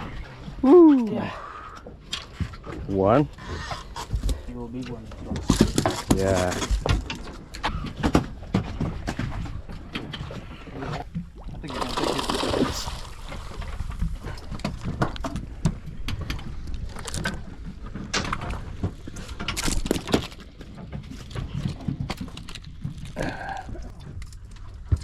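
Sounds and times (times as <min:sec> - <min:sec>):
low rumble of water and wind: 0:00.0 - 0:25.0
knocks and clatters on boat deck: 0:01.8 - 0:11.4, 0:13.9 - 0:25.0.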